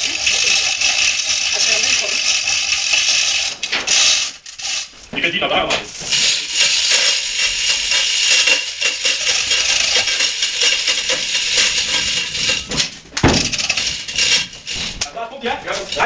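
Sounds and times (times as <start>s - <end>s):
chain hoists rattling: 0.0s - 16.0s.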